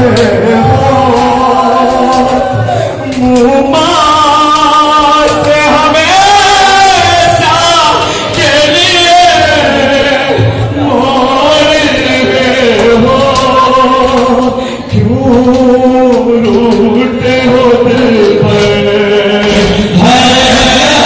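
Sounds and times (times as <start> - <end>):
man singing through microphone: 0.0 - 21.0.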